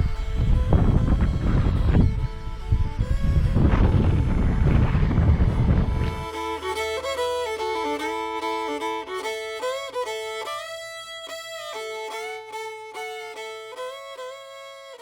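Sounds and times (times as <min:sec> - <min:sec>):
fiddle tune: 0:00.0 - 0:15.0.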